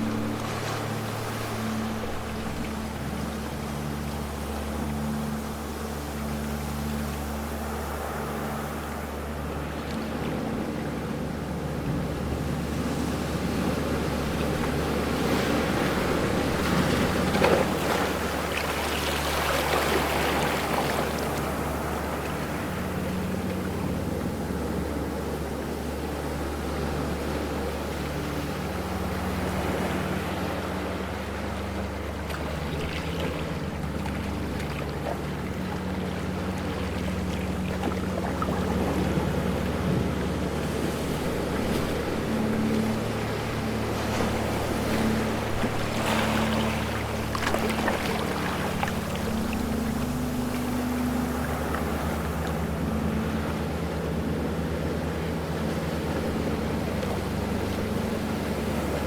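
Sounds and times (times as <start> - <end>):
low steady hum: 0.0 - 59.0
ocean waves breaking: 0.0 - 59.0.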